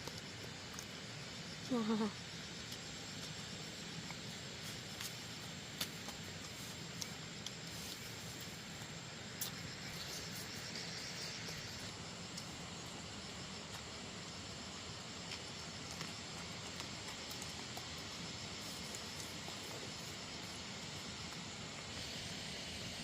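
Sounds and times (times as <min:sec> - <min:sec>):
faint insect chirring: 0:00.0 - 0:23.0
outdoor background hiss: 0:00.0 - 0:23.0.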